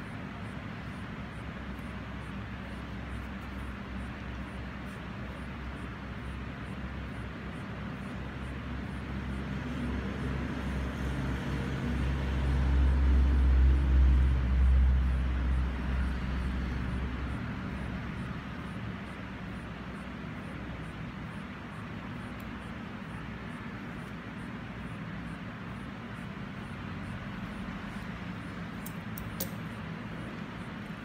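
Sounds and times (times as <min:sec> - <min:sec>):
background traffic noise: 0:00.0 - 0:31.0.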